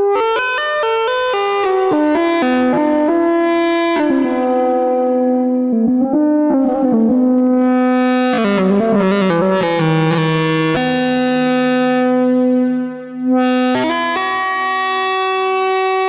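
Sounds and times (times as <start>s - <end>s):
buzzy synthesizer notes: 0.0s - 16.0s.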